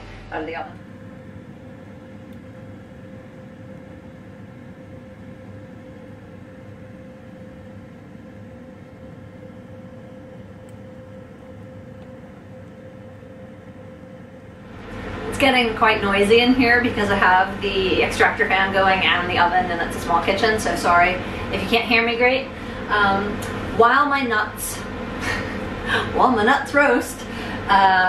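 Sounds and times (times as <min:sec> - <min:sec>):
extractor fan rushing: 0:00.0 - 0:28.0
oven humming: 0:00.0 - 0:28.0.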